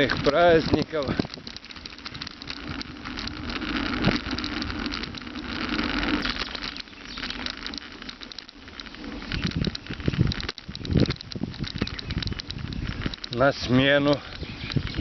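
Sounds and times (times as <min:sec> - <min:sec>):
bicycle tyres on rough ground: 0:00.0 - 0:15.0.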